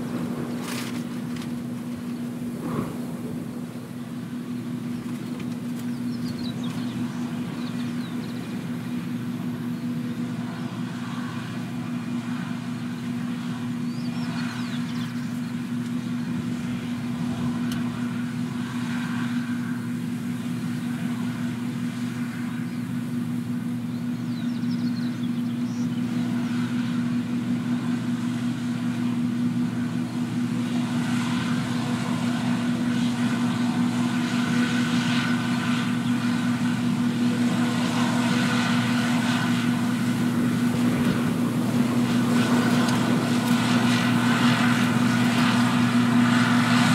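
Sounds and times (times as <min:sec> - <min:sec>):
combine harvester drone: 0:00.0 - 0:46.9.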